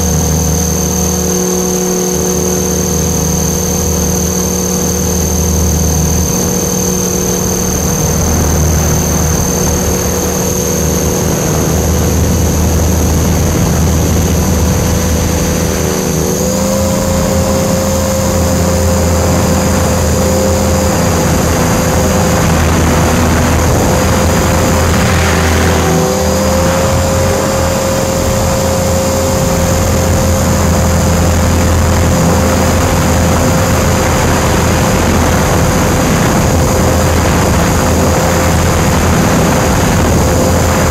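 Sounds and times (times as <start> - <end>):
rc helicopter motor whine: 0.0 - 40.9
rushing air noise: 0.0 - 40.9.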